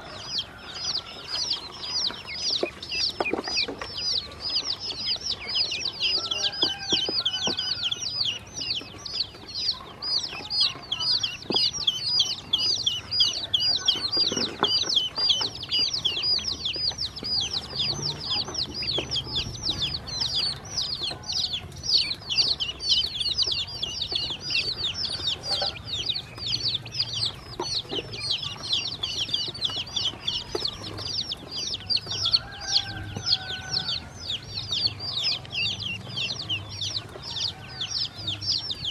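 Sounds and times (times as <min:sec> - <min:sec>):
chicks and ducklings peeping: 0:00.0 - 0:38.9.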